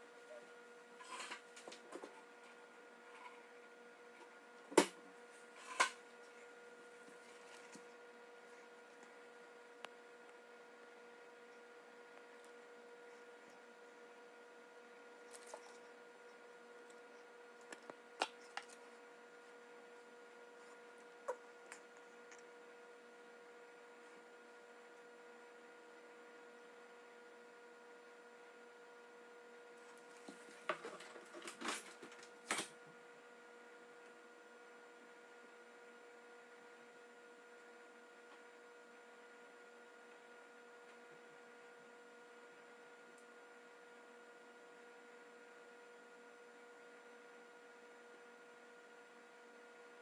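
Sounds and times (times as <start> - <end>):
electrical hum: 0.0 - 50.0.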